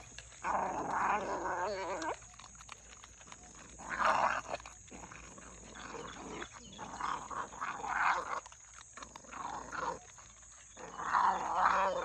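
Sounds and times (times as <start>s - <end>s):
puppy growling: 0.0s - 12.0s.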